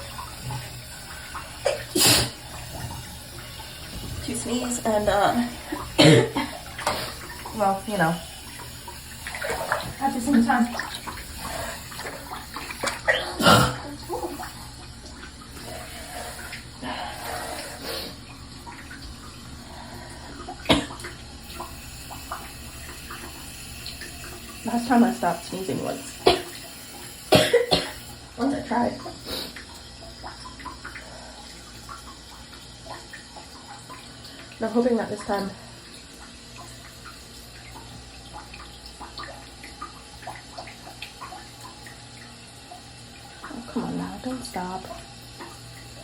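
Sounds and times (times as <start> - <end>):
running water: 0.0 - 46.0
steady low hum: 0.0 - 46.0.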